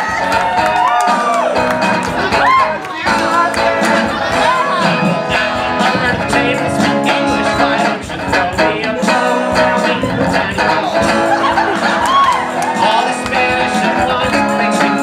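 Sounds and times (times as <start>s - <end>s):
electric guitar strumming: 0.0s - 15.0s
man singing into a microphone: 2.2s - 15.0s.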